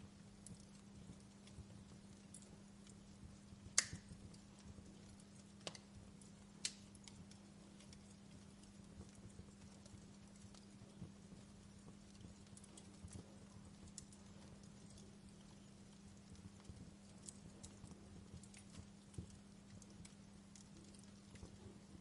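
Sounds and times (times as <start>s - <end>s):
faint low hum: 0.0s - 22.0s
fire crackling: 0.0s - 22.0s
fire popping: 0.0s - 22.0s.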